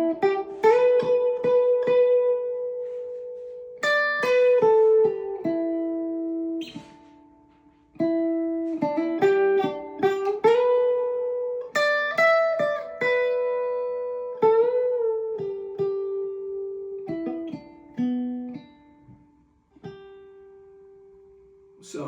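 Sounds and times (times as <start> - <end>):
amplified ukulele picking melody: 0.0 - 19.1.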